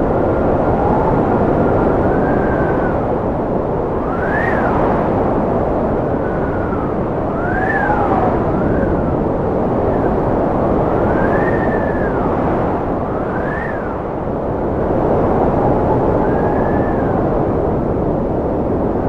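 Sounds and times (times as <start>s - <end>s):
thin wind whistle: 0.0s - 17.9s
strong wind blowing: 0.0s - 19.0s.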